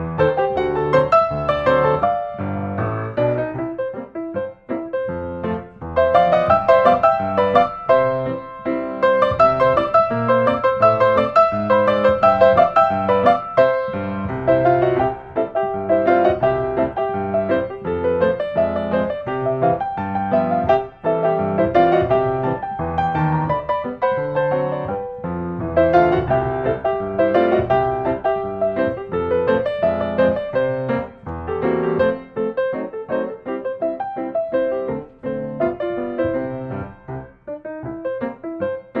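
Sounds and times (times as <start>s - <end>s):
lively piano music: 0.0s - 39.0s.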